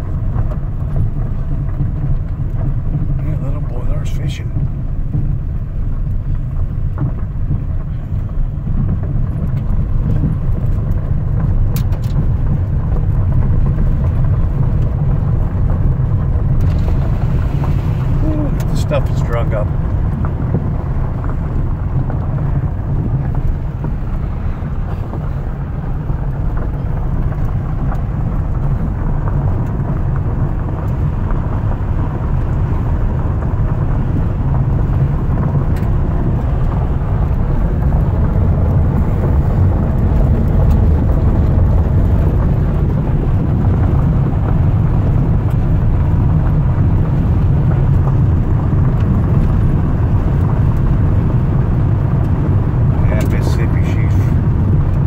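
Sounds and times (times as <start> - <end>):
car cabin road and wind noise: 0.0 - 55.0.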